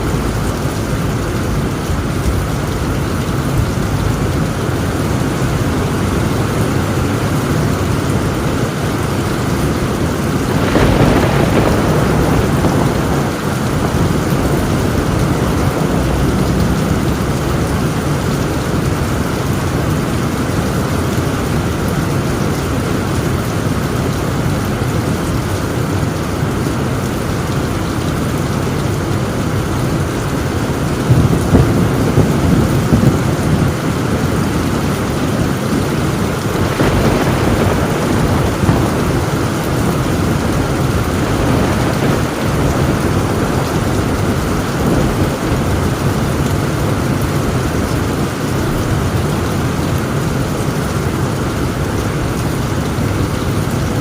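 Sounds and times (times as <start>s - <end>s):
thunder rumbling: 0.0s - 54.0s
torrential rain on a tin roof: 0.0s - 54.0s.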